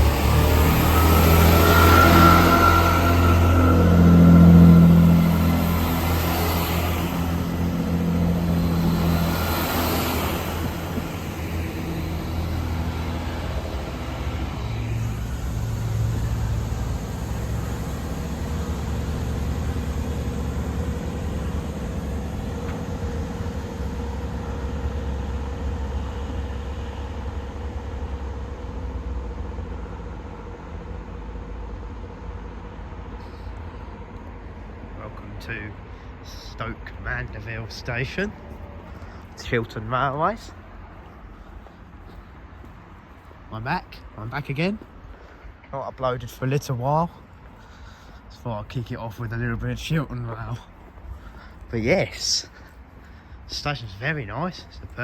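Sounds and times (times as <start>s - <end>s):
train diesel engines humming: 0.0s - 55.0s.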